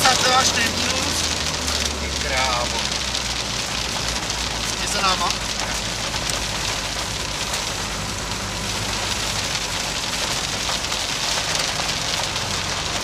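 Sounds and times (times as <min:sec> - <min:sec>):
diesel engine running: 0:00.0 - 0:13.0
tyre and road noise: 0:00.0 - 0:13.0.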